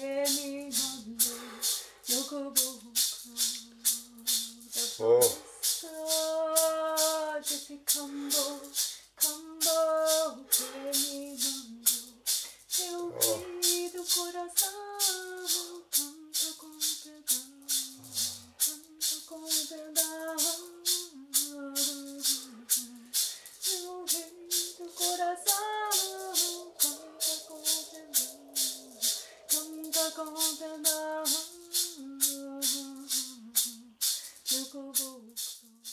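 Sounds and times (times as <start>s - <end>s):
person singing slow melody: 0.0s - 35.9s
shaker rattle: 0.0s - 35.9s.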